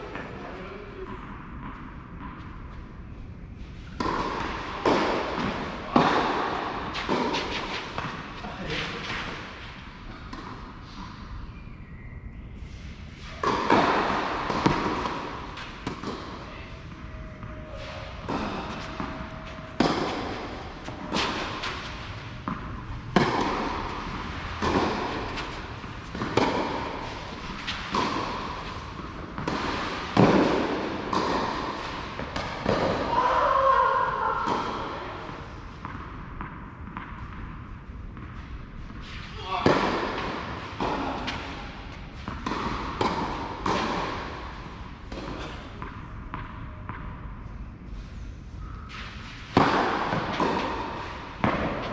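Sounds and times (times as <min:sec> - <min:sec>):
rackets striking tennis ball: 0:03.9 - 0:11.7, 0:13.2 - 0:33.4, 0:34.3 - 0:47.3, 0:48.8 - 0:51.9.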